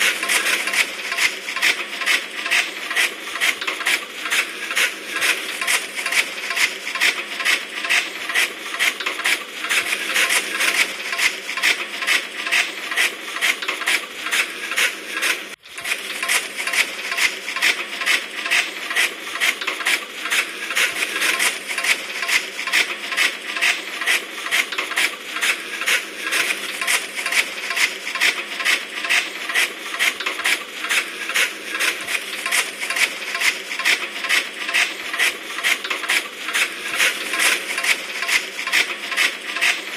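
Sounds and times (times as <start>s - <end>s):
chaff cutter chopping fodder: 0.0s - 39.9s.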